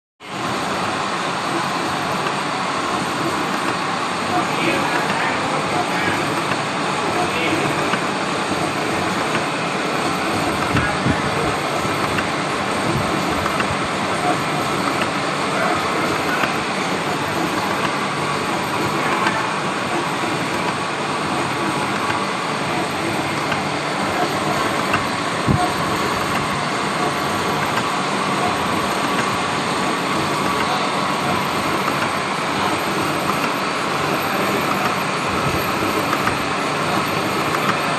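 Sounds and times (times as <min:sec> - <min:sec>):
machine tool running: 0:00.4 - 0:37.9.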